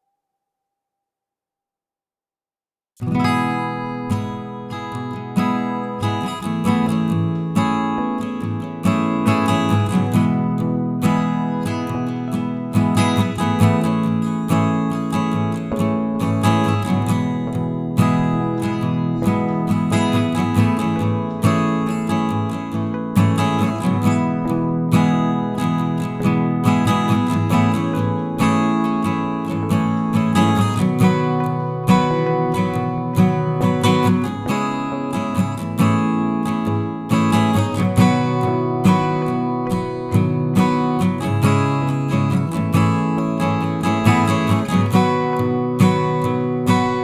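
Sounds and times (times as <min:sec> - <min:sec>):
acoustic guitar strumming: 0:03.0 - 0:47.0.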